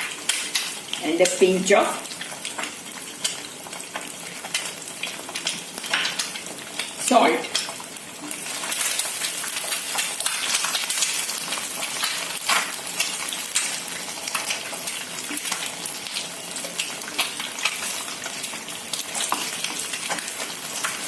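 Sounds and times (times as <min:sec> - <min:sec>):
eggs sizzling in pan: 0:00.0 - 0:21.0.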